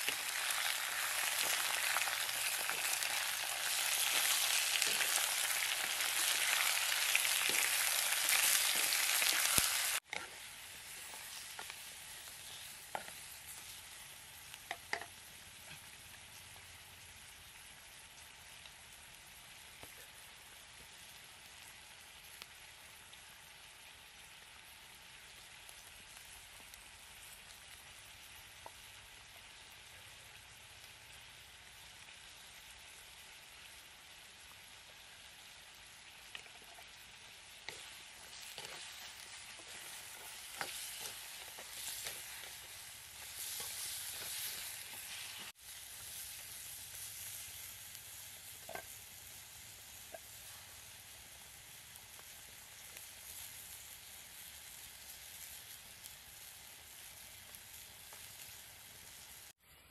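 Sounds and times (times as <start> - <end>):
meat sizzling: 0.0 - 59.9.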